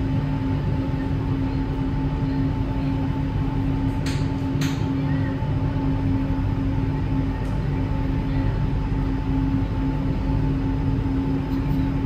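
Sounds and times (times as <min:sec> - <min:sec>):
metro car running rumble: 0:00.0 - 0:12.0.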